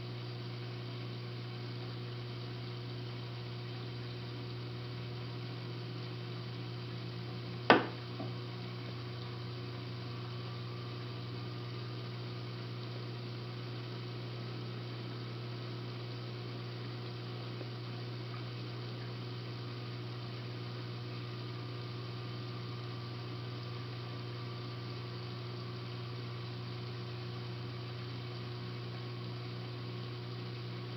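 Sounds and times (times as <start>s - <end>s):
electrical equipment hum: 0.0s - 30.9s.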